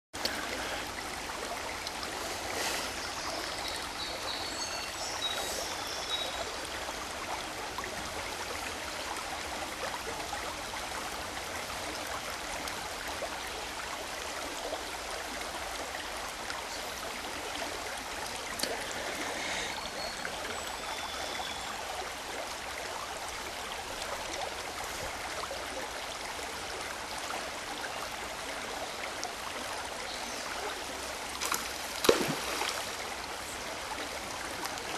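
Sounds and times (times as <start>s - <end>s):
stream babbling: 0.2s - 34.9s.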